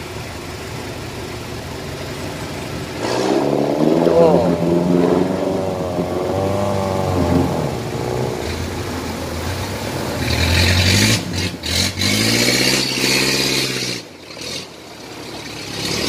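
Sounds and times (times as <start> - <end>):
truck engine labouring: 0.0 - 16.0
water rushing and splashing: 1.6 - 16.0.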